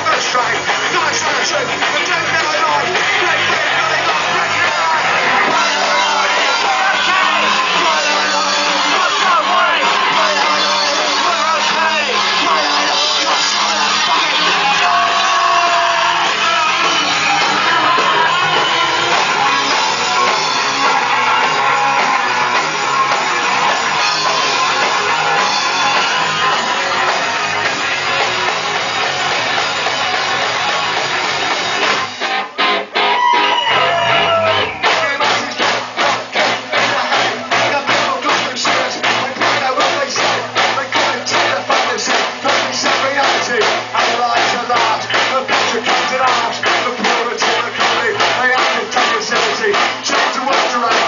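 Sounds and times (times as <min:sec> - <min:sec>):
punk rock band playing live: 0:00.0 - 0:51.0.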